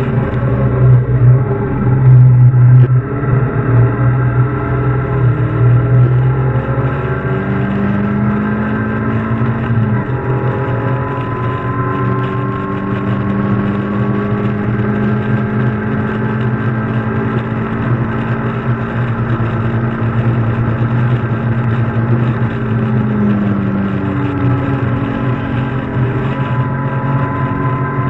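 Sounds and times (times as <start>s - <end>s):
race car engine at high revs: 0.0s - 28.0s.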